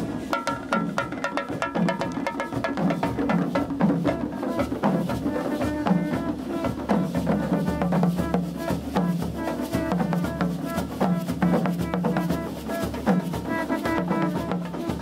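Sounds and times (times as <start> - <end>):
drum band fast rhythm: 0.0 - 15.0.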